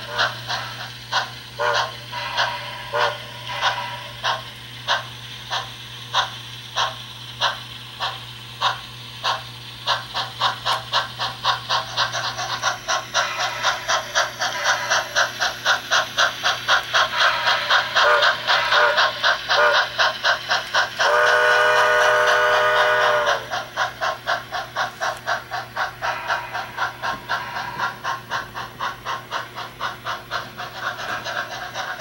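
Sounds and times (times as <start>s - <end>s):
model steam locomotive chuffing: 0.0s - 32.0s.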